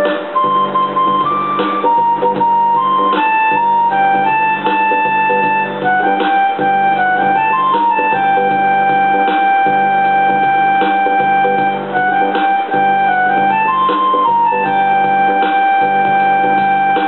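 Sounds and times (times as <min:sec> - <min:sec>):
keyboard single-note melody: 0:00.0 - 0:17.0
steady beat with low chords: 0:00.0 - 0:17.0.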